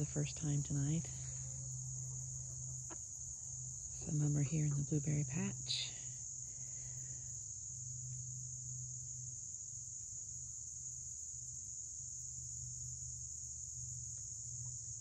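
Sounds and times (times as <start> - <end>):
insect trill: 0.0 - 15.0
low steady hum: 0.0 - 15.0.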